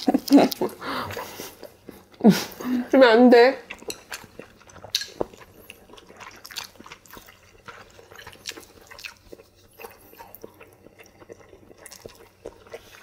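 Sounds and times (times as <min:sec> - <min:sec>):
wet chewing: 0:00.0 - 0:02.2, 0:03.6 - 0:13.0.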